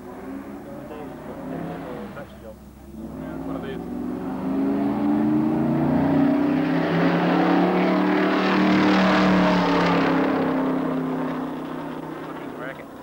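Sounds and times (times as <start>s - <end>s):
race car engine running loudly: 0.0s - 13.0s.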